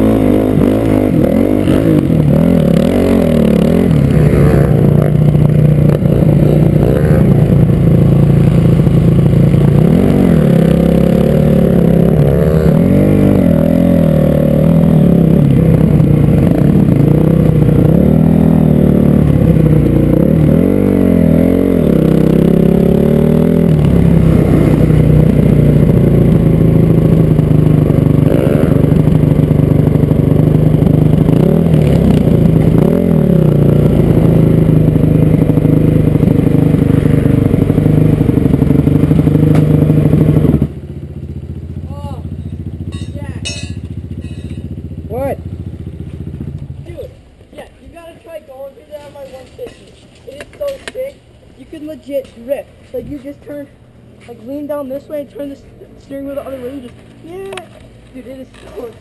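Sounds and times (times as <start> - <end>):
dirt bike engine revving: 0.0 - 47.4.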